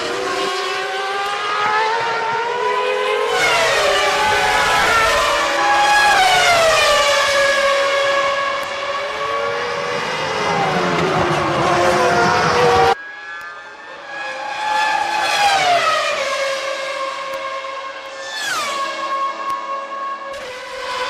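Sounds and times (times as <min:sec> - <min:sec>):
racing car engines at high revs: 0:00.0 - 0:21.0.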